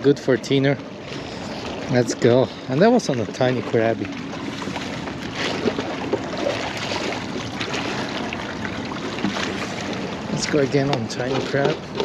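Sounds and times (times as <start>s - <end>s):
small water splashes: 0.0s - 12.0s
small waves lapping on rocks: 0.0s - 12.0s.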